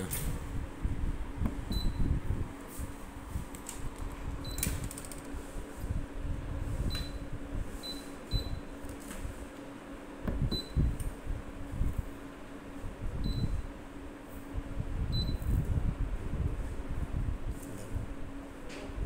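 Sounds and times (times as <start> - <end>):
fan and motor hum: 0.0 - 19.0.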